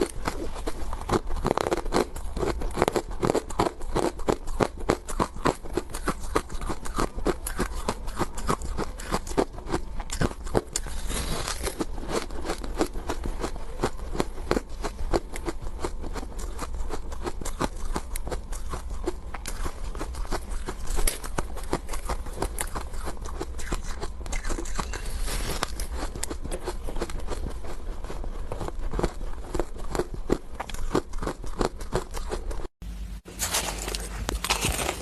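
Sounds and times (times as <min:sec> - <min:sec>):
ice crunching while chewed: 0:00.0 - 0:32.7, 0:33.3 - 0:35.0.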